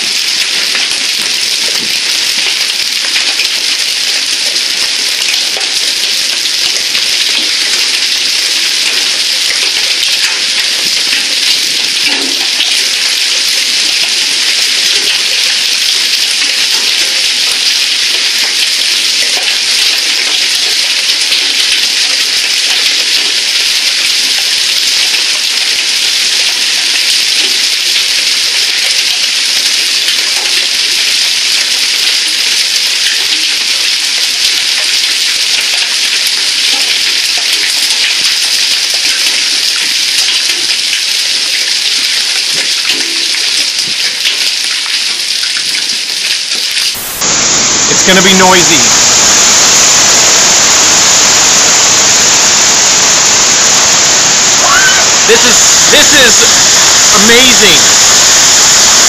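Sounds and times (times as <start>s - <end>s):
heavy rain and hail: 0.0s - 59.0s.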